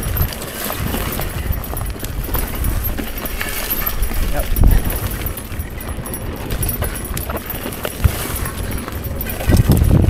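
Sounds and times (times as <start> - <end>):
bike clicks and knocks: 0.0 - 10.0
bike tyres on dirt and rock: 0.0 - 10.0
low bumps: 0.0 - 10.0.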